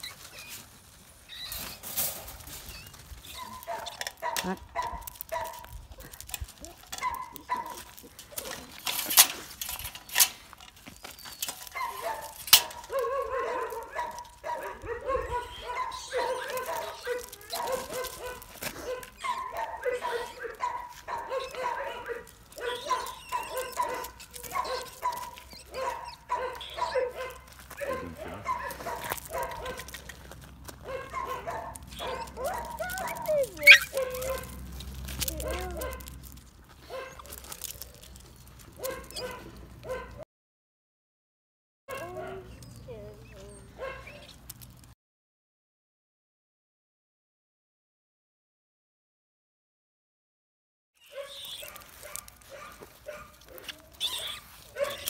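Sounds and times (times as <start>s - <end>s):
puppies whining and yipping: 0.0s - 40.2s, 41.9s - 44.5s, 51.0s - 55.0s.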